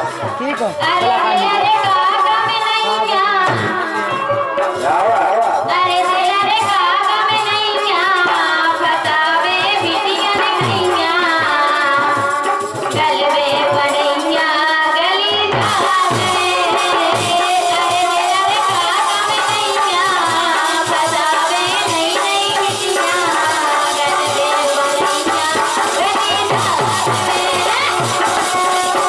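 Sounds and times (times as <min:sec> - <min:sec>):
woman singing into microphone: 0:00.0 - 0:04.8, 0:05.5 - 0:29.0
drum beats: 0:00.0 - 0:29.0
harmonium: 0:00.0 - 0:29.0.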